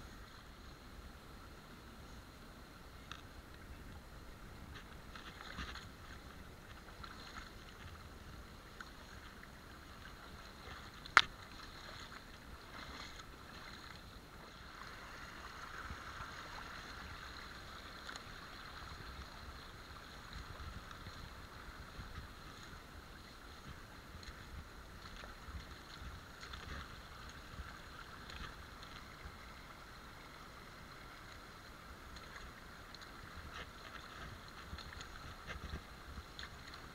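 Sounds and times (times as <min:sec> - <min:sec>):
boots wading through stream: 0:00.0 - 0:36.9.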